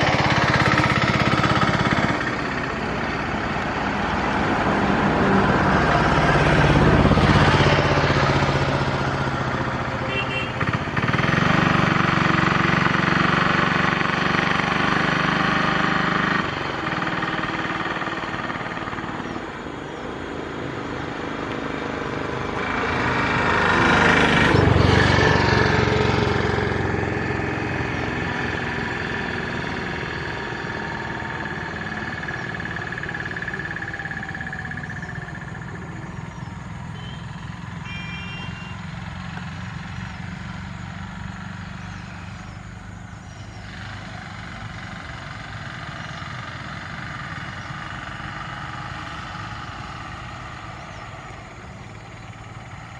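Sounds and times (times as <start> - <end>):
traffic going past: 0.0 - 52.9
vehicle engine passing by: 0.0 - 52.9.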